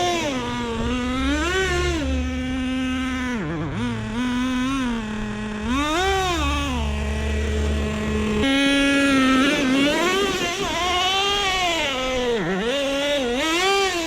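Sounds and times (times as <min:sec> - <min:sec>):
small model engine revving: 0:00.0 - 0:14.0.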